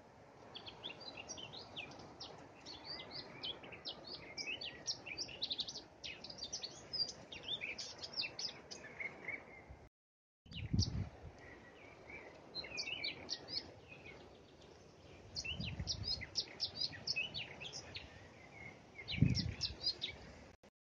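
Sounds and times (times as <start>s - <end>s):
songbirds chirping: 0.0s - 9.9s, 10.5s - 20.6s.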